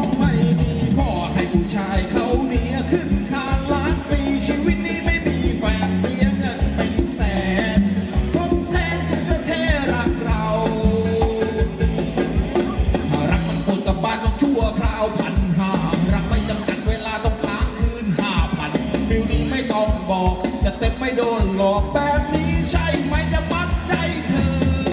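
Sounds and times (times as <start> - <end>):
band playing dance music: 0.0 - 24.9
steady drum beat: 0.0 - 24.9.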